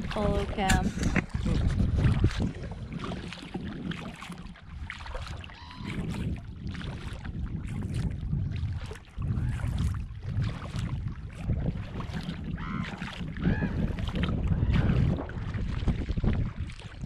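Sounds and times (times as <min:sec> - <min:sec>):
paddle splashing water: 0:00.0 - 0:17.0
wind on microphone: 0:00.0 - 0:17.0.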